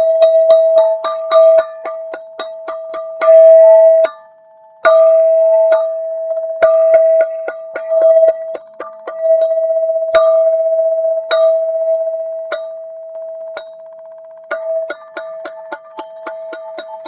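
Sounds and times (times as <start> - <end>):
ringing metallic notes: 0.0 - 17.0
steady ringing tone: 0.0 - 17.0.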